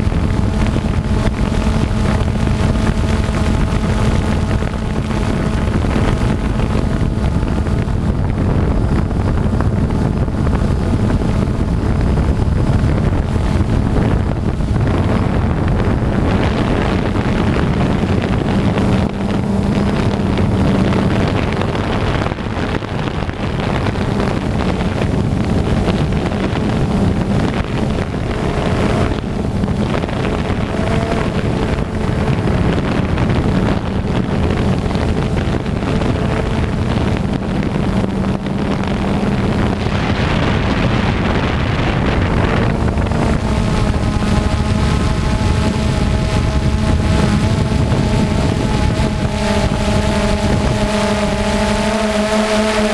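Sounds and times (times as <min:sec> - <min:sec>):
drone propellers buzzing: 0:00.0 - 0:52.9
wind on microphone: 0:00.0 - 0:52.9.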